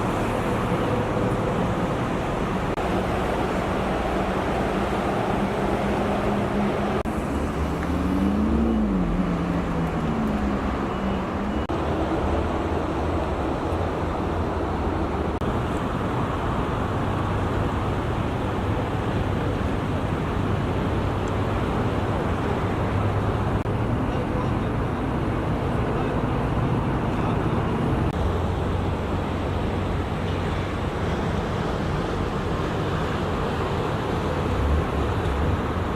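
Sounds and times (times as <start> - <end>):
tyre and road noise: 0.0 - 35.9.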